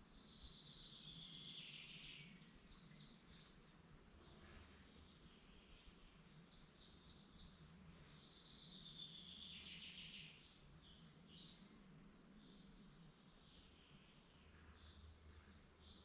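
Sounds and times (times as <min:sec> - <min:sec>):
faint steady low hum: 0:00.0 - 0:16.0
woodland birdsong: 0:00.0 - 0:16.0.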